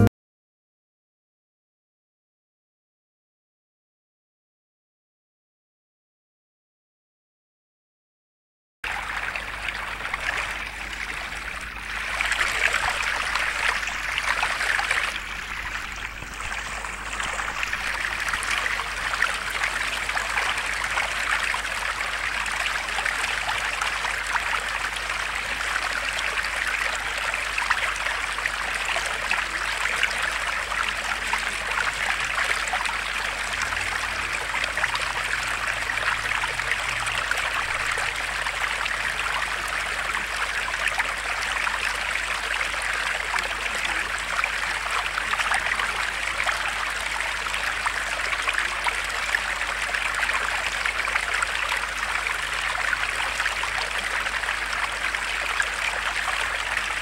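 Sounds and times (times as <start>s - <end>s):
water splashing into basin: 8.9s - 57.0s
water trickling from fountain spouts: 8.9s - 57.0s.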